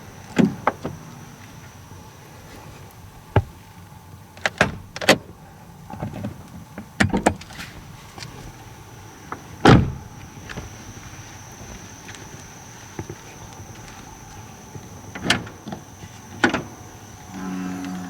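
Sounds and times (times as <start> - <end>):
car creaks and knocks: 0.0 - 2.0, 3.1 - 3.7, 4.3 - 18.0.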